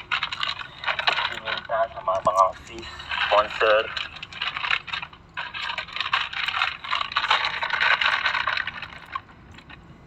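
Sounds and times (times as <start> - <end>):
snack packets rattling: 0.0 - 10.0.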